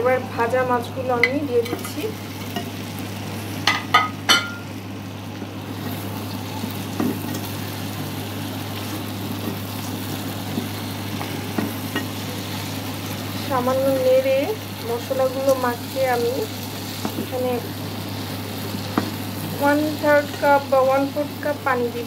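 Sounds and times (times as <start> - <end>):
fish sizzling in oil: 1.1 - 22.0.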